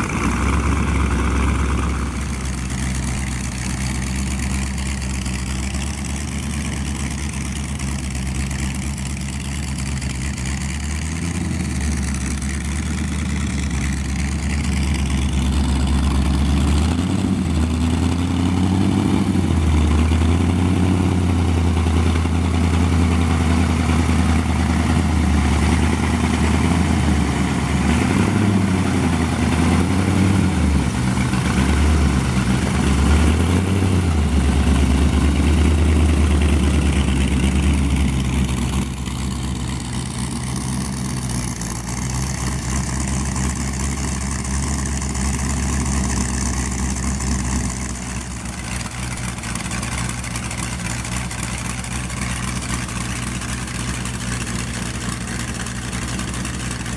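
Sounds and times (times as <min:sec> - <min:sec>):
car engine revving and idling: 0:00.0 - 0:56.9.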